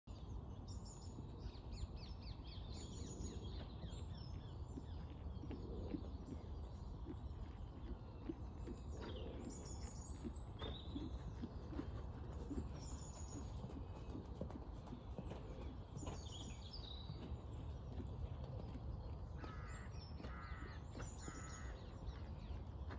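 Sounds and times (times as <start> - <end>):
small birds chirping: 0.1 - 22.9
steady outdoor hum: 0.1 - 22.9
horse hoofbeats on sand: 3.2 - 22.9.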